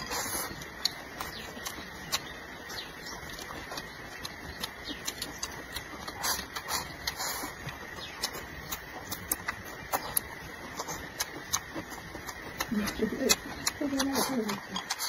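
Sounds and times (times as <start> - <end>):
person chewing and slurping food: 0.0 - 15.0.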